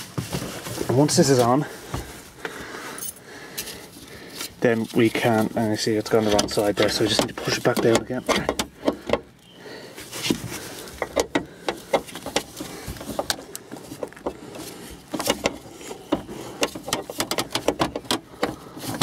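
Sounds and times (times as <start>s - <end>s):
gearshift cable clicks and rattles: 2.4s - 9.4s, 10.1s - 19.0s.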